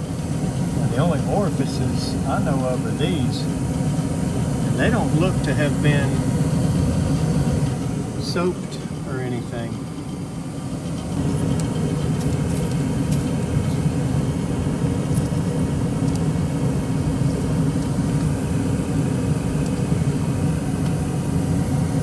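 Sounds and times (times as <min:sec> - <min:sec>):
gas furnace rumbling: 0:00.0 - 0:22.0.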